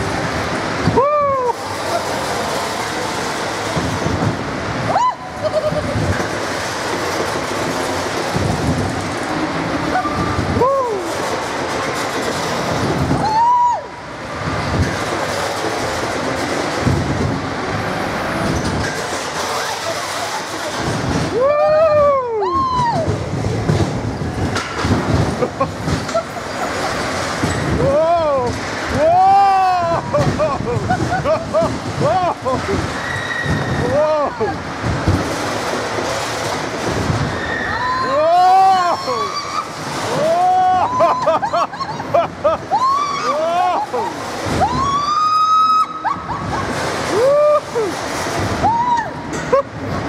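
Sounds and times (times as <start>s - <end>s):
roller coaster squeal: 0.0s - 50.0s
roller coaster wheels rumbling on rails: 0.0s - 50.0s.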